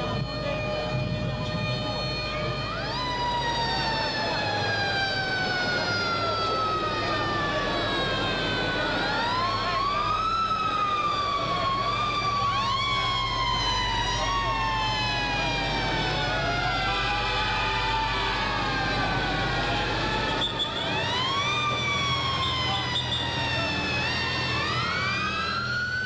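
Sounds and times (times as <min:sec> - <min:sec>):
emergency vehicle sirens wailing: 0:00.0 - 0:26.0.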